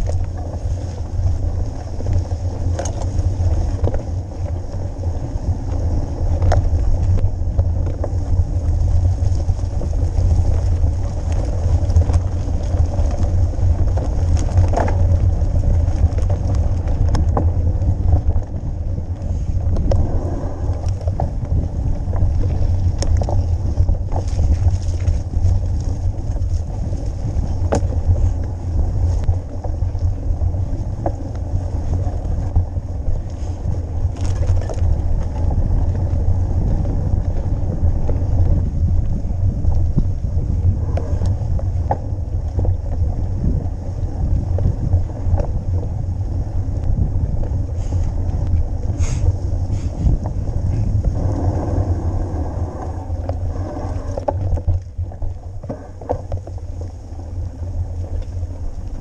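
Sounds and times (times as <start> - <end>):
bike clicks and rattles: 0.0 - 59.0
tyres over rough ground: 0.0 - 59.0
wind buffeting microphone: 0.0 - 59.0.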